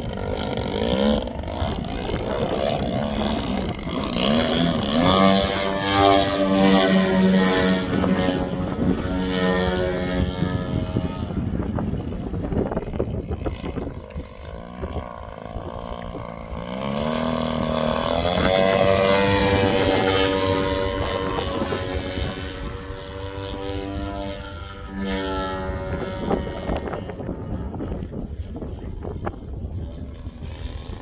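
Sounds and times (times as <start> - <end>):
model plane engine buzzing: 0.0 - 31.0.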